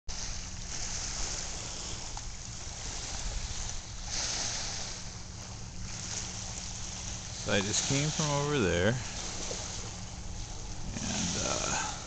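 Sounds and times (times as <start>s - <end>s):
low steady hum: 0.1s - 12.0s
water at shore: 0.1s - 12.0s.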